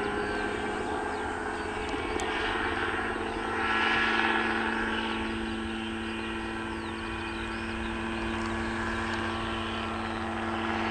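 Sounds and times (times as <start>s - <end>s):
helicopter engine and rotor drone: 0.0s - 10.9s.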